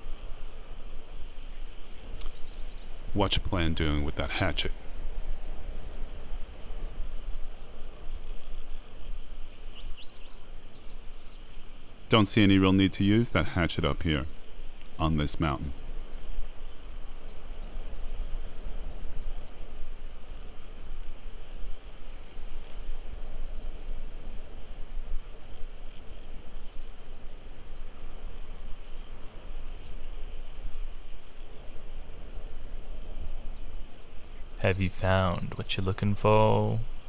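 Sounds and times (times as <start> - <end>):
low rumble and hiss: 0.0 - 37.0.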